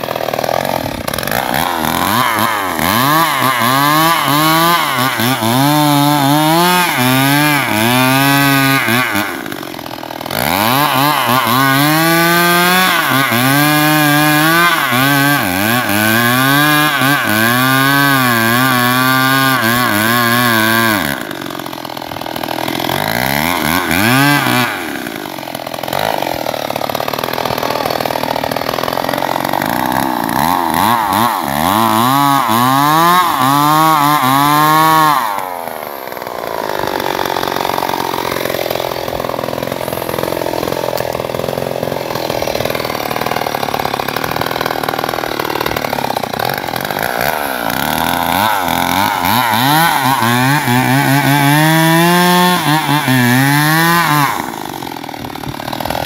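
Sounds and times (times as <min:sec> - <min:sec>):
chainsaw cutting into tree trunk: 0:00.0 - 0:56.0.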